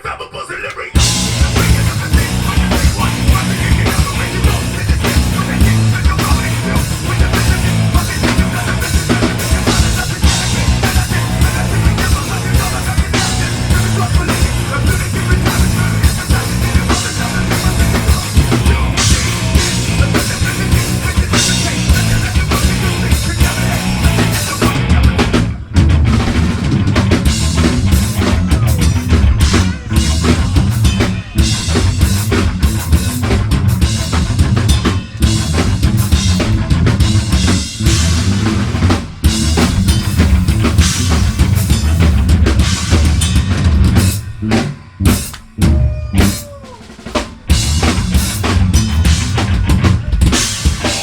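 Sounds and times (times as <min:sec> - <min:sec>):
live metal band playing: 0:00.9 - 0:51.0
bass drum and snare hits: 0:01.0 - 0:51.0.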